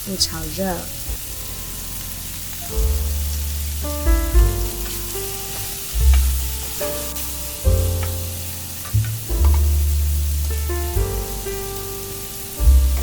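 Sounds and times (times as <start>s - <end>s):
background music with bass: 0.0s - 13.0s
food sizzling in a pan: 0.0s - 13.0s.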